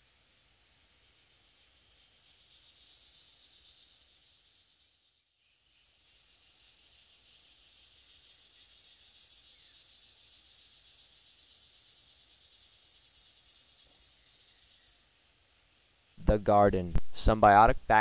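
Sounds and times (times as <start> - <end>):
insect chorus shrilling: 0.0 - 18.0.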